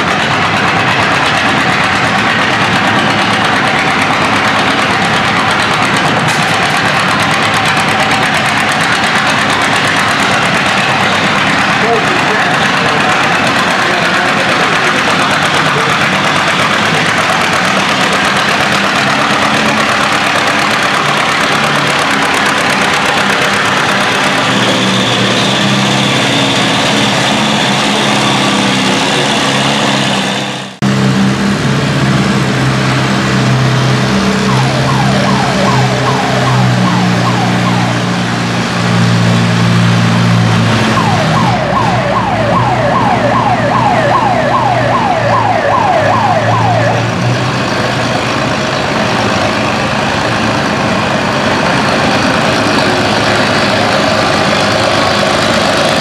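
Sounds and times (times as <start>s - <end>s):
tractor engines under heavy load: 0.0s - 56.0s.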